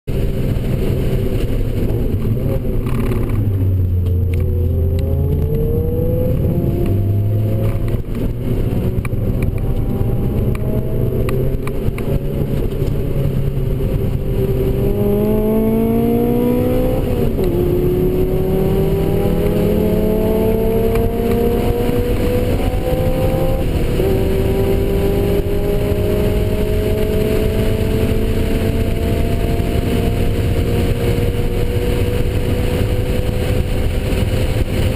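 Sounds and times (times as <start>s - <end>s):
car engine accelerating hard: 0.1s - 34.9s.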